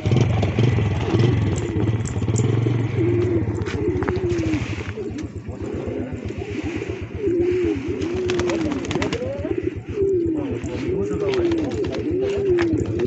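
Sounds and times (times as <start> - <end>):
low pulsing throb: 0.0 - 13.0
pigeons cooing: 0.0 - 13.0.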